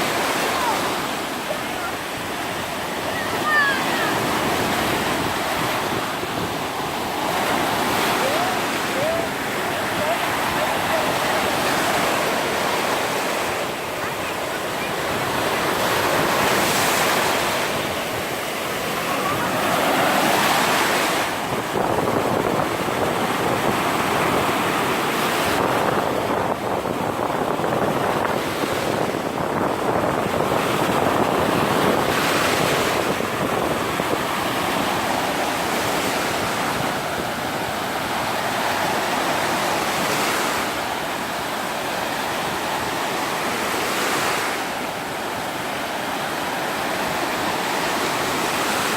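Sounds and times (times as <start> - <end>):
wind buffeting microphone: 0.0 - 40.8
surf breaking on beach: 0.0 - 48.9.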